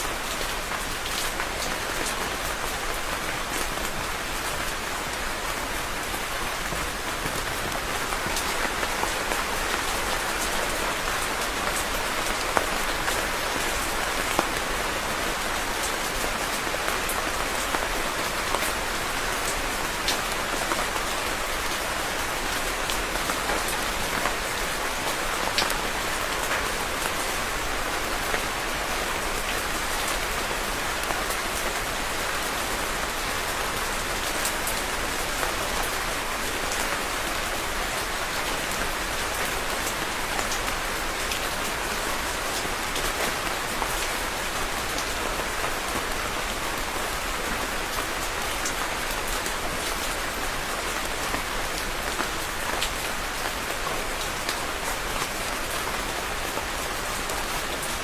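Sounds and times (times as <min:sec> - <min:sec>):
rain hissing and pattering: 0:00.0 - 0:58.0.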